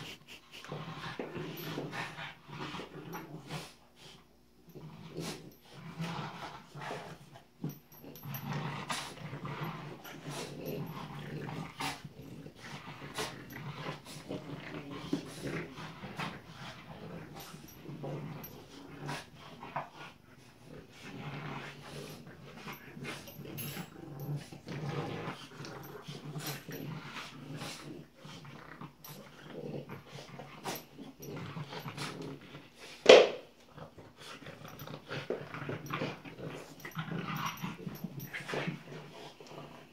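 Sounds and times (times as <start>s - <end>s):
puppies growling in play: 0.0s - 39.9s.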